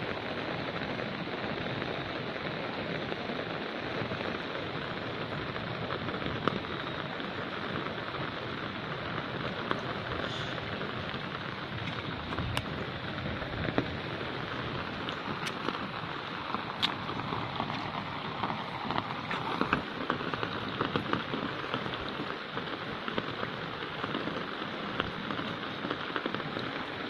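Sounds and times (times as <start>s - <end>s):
rain falling on water: 0.0s - 27.0s.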